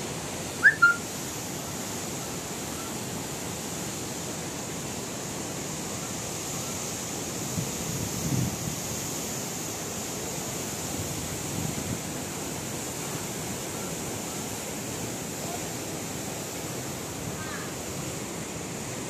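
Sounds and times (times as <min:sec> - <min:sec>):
water rushing at dam gates: 0:00.0 - 0:19.0.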